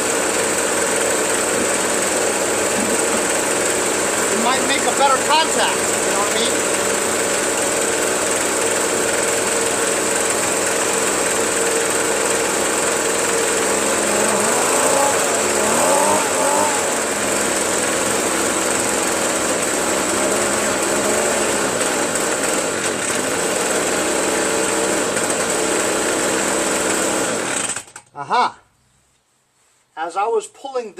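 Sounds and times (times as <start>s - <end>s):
leaf blower engine idling: 0.0s - 28.0s.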